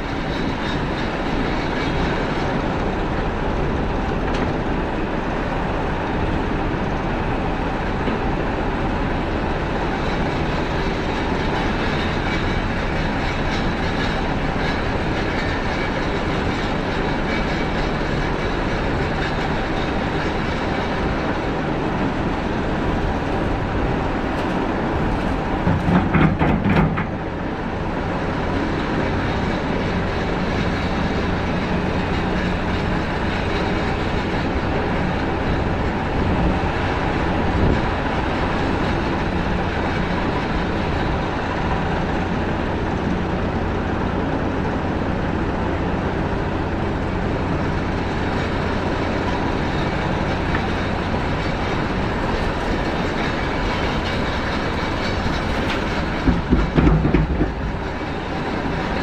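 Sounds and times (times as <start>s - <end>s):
diesel engines droning: 0.0s - 59.0s.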